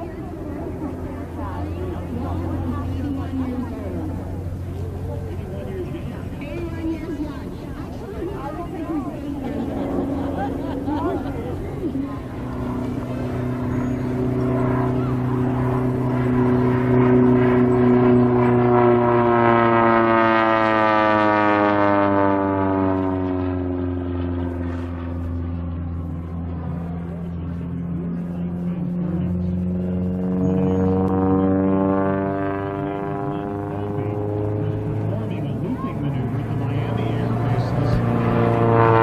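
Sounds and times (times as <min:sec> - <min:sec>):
propeller airplane engine drone: 0:00.0 - 0:39.0.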